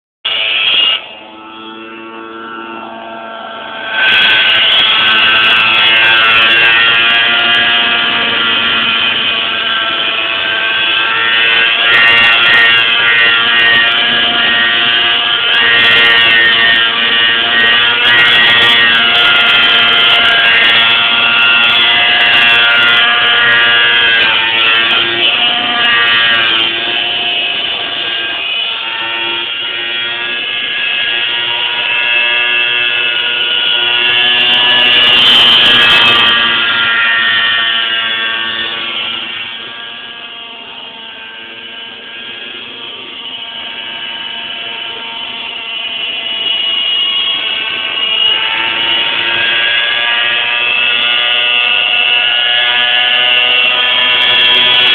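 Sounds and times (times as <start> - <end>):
model helicopter rotor whine: 0.3 - 54.9.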